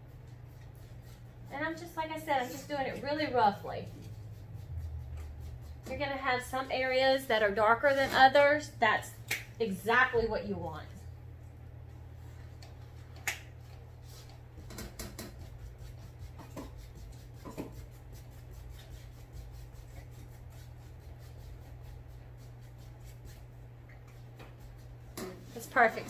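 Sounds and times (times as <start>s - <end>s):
sponge brush dabbing on canvas: 0.0s - 8.6s, 12.3s - 14.6s, 15.2s - 26.0s
steady low hum: 0.0s - 26.0s.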